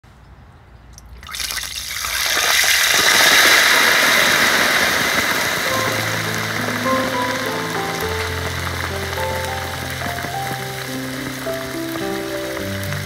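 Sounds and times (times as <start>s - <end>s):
deep-frying sizzle in hot oil: 1.3s - 13.0s.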